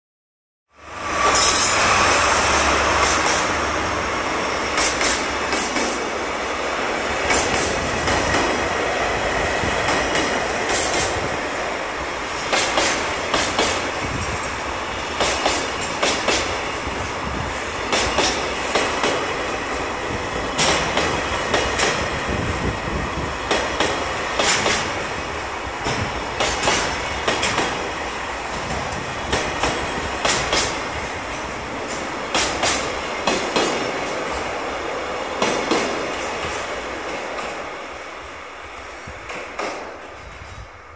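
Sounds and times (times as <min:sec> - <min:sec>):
train wheels knocking on rail joints: 0:02.8 - 0:37.6, 0:39.1 - 0:40.6.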